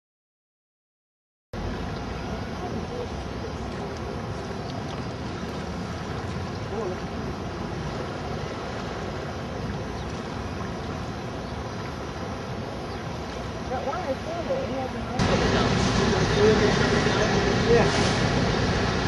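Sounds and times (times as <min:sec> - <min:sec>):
boat motor and water rushing: 0:01.6 - 0:19.0.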